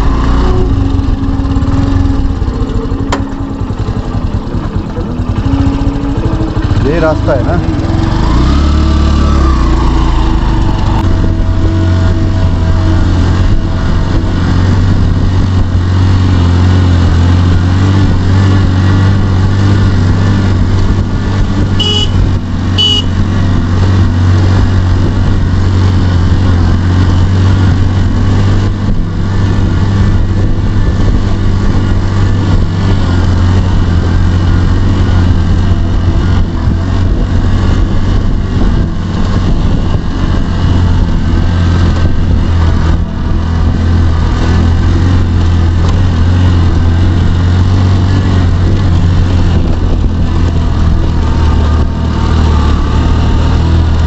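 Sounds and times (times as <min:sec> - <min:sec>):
road and wind noise: 0:00.0 - 0:54.0
vehicle engine droning: 0:00.0 - 0:54.0.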